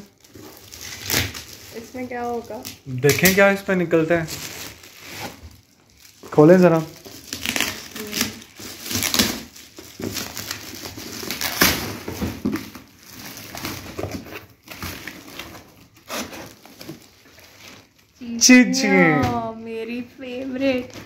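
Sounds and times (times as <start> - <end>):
snack packets rustling: 0.0 - 19.4
foil gift wrap crinkling: 0.0 - 21.0.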